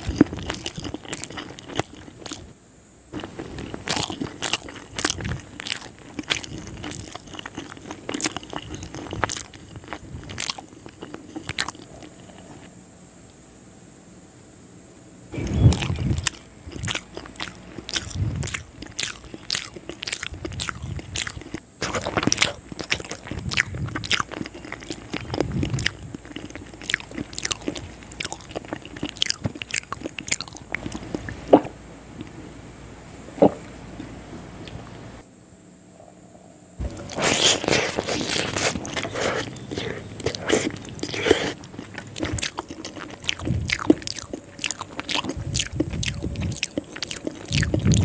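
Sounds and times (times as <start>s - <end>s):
wet chewing and mouth clicks: 0.0s - 2.5s, 3.1s - 12.7s, 15.4s - 32.3s, 36.8s - 48.0s.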